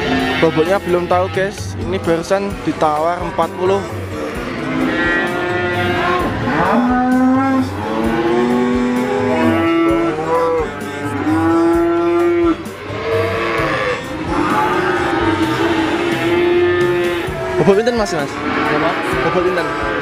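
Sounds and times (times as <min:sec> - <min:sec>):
background music: 0:00.0 - 0:20.0
cattle mooing: 0:00.0 - 0:20.0.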